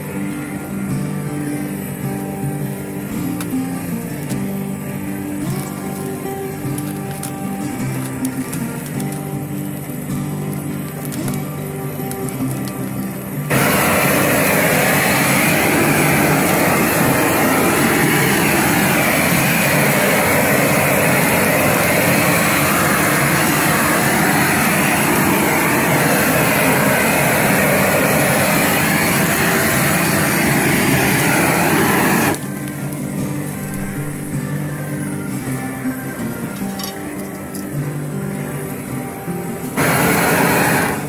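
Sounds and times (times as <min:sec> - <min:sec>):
flame torch burner rushing: 0:00.0 - 0:37.6, 0:39.7 - 0:41.0.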